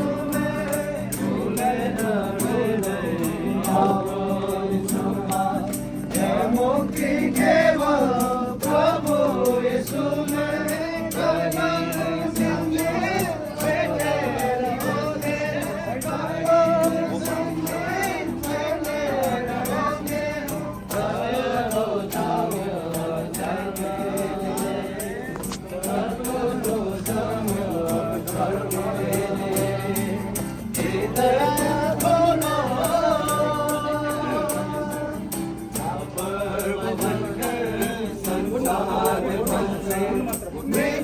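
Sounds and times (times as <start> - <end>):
group singing a hymn: 0.0 - 41.0
steady percussion beat: 0.0 - 41.0.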